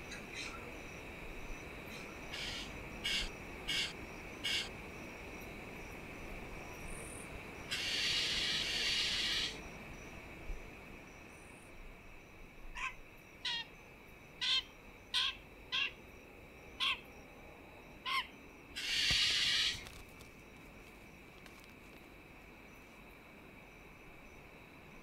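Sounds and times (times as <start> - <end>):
faint insect drone: 0.0 - 25.0.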